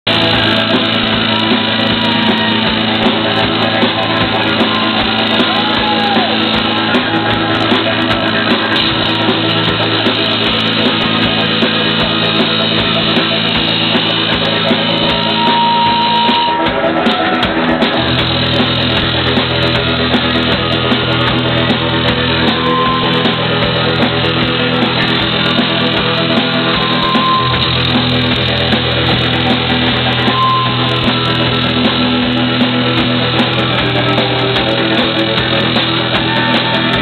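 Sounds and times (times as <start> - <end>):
bass guitar: 0.0 - 37.0
drum kit: 0.0 - 37.0
electric guitar: 0.0 - 37.0.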